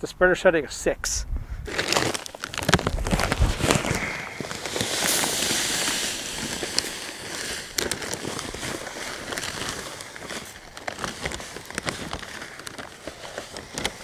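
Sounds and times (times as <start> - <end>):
pellets pouring into plastic hopper: 1.7 - 14.0.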